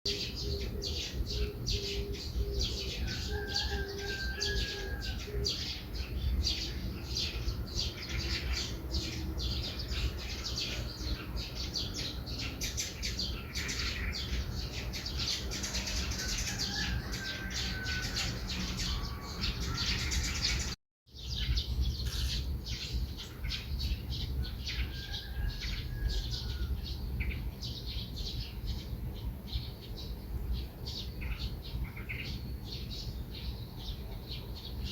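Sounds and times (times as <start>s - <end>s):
songbirds chirping: 0.1s - 34.9s.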